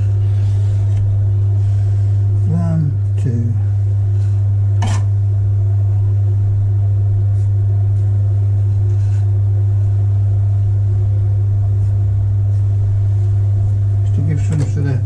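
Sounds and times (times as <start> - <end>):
potter's wheel humming: 0.0 - 15.0.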